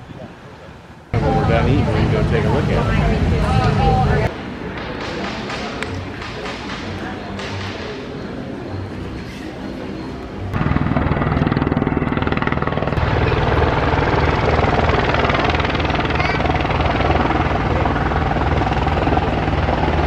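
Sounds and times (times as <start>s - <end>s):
propeller plane engine drone: 0.5s - 20.0s.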